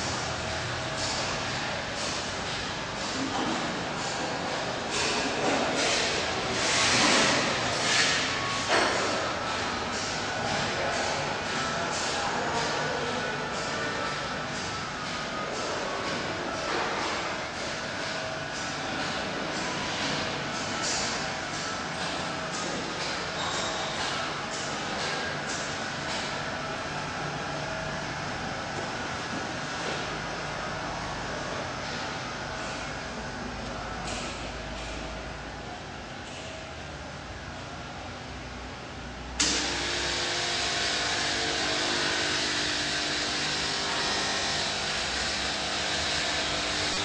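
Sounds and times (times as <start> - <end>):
machine whirring and hissing: 0.0 - 37.2, 38.9 - 47.0.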